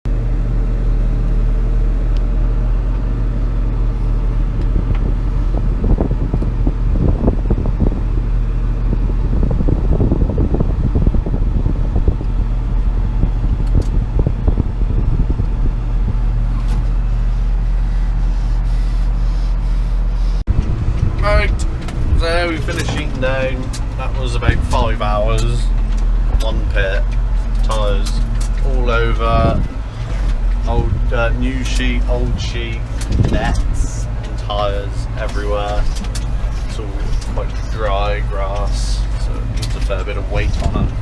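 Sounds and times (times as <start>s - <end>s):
tractor engine running: 0.1s - 41.0s
rustling and rough noises: 2.3s - 41.0s.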